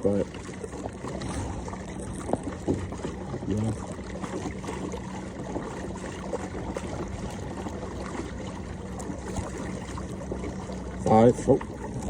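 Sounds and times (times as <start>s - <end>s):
small splashes and knocks: 0.0s - 12.0s
water lapping against a kayak hull: 0.0s - 12.0s.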